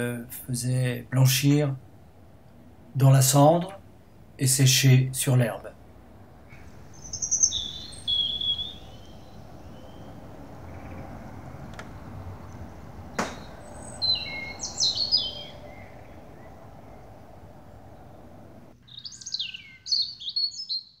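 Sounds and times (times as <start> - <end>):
low outdoor hiss: 0.0 - 20.9
songbirds chirping: 0.0 - 21.0.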